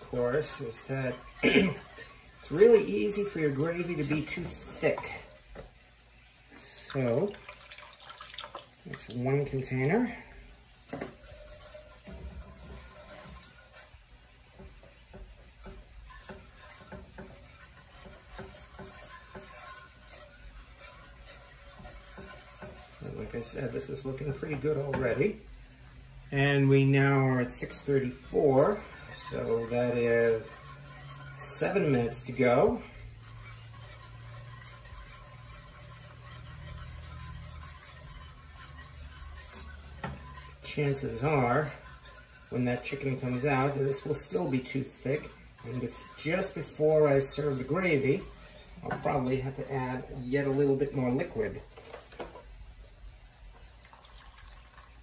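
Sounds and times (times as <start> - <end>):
wet churn of sauce: 0.0 - 26.2, 27.0 - 48.9
whisk scraping a skillet: 0.0 - 55.0.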